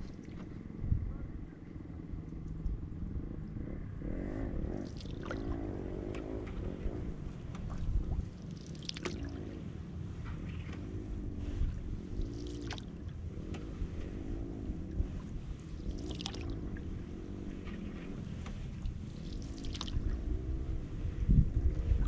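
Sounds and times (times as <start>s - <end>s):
water lapping against a canoe: 0.0s - 0.7s, 4.4s - 22.0s.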